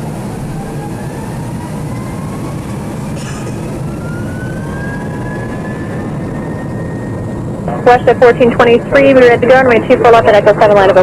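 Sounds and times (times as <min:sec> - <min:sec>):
jet engines roaring: 0:00.0 - 0:11.0
rising engine whine: 0:00.0 - 0:11.0.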